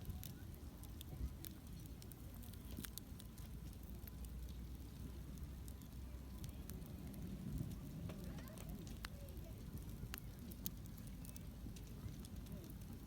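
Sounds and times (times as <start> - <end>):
campfire pops and snaps: 0.0 - 13.0
low rumble of burning: 0.0 - 13.0.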